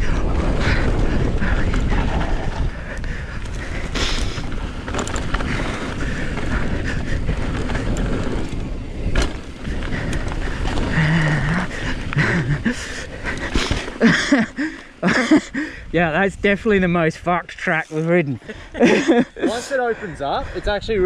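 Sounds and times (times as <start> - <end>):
wind rush over microphone: 0.0 - 17.6, 20.0 - 21.0
bike tyre and frame rattle: 0.0 - 21.0.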